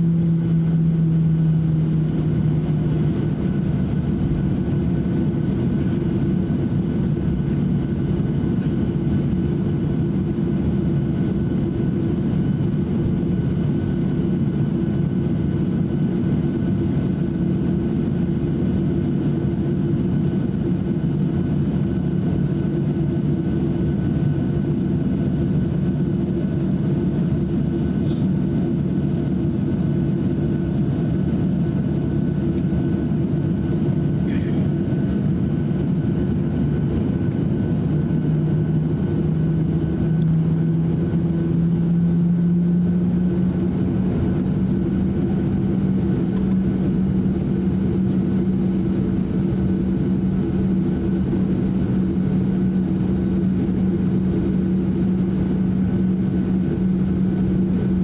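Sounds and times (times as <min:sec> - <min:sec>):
jet engines running in cabin: 0:00.0 - 0:58.0.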